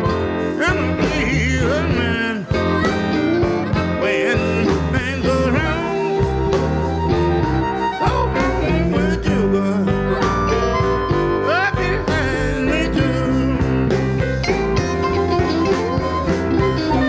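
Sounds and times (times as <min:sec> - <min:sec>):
electric blues band playing: 0:00.0 - 0:17.0.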